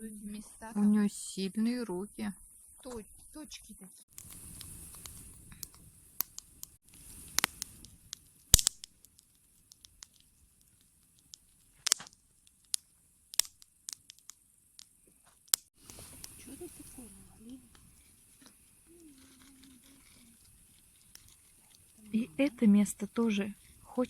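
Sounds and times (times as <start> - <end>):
campfire crackling and popping: 4.1 - 24.0.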